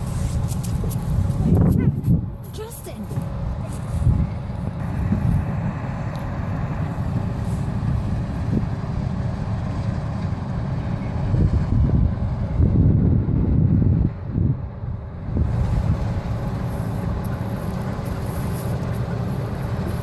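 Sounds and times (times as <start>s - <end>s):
heavy machinery engine rumbling: 0.0s - 20.0s.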